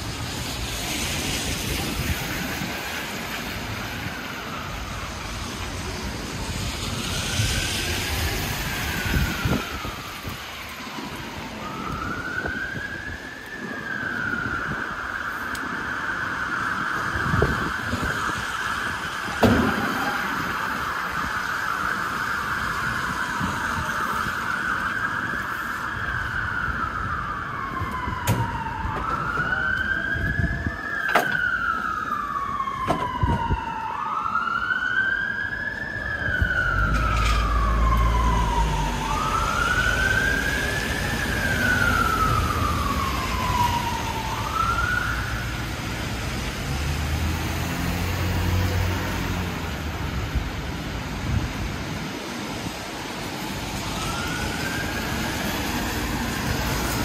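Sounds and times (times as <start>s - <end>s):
emergency siren wailing: 0.0s - 57.0s
street traffic noise: 0.0s - 57.0s.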